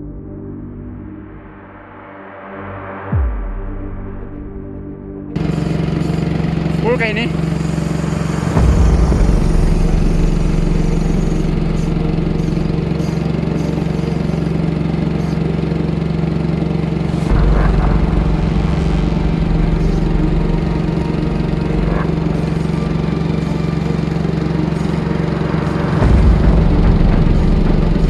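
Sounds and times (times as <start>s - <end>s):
boat engine rumbling: 5.4s - 28.0s.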